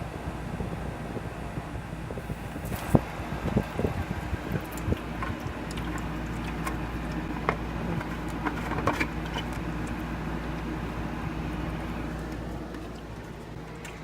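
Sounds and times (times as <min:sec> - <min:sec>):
tap water running into canister: 0:02.6 - 0:14.0.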